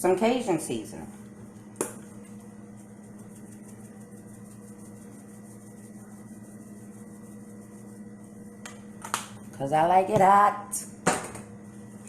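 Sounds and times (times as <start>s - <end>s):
faint constant whine: 0.0s - 12.0s
low electrical hum: 0.0s - 12.0s.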